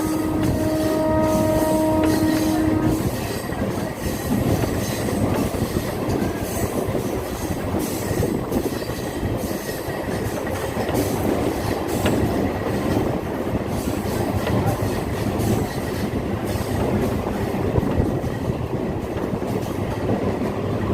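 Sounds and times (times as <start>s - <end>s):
train rumbling on rails: 0.0s - 20.9s.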